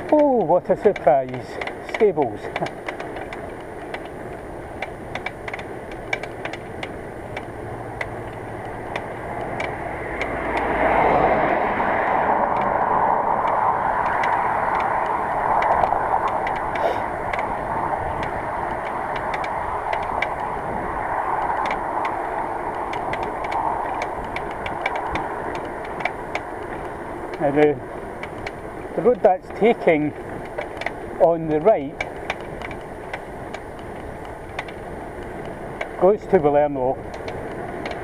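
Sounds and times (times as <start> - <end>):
bicycle clicks: 0.0 - 38.0
bicycle riding rush: 0.0 - 38.0.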